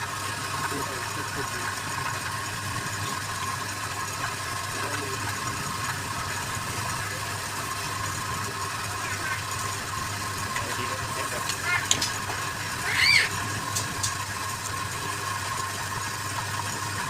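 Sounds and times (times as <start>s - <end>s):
wood lathe motor hum: 0.0s - 17.0s.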